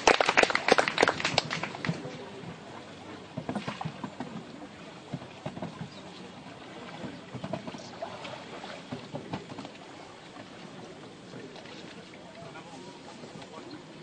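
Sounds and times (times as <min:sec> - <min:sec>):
paddles splashing in water: 0:00.0 - 0:14.0.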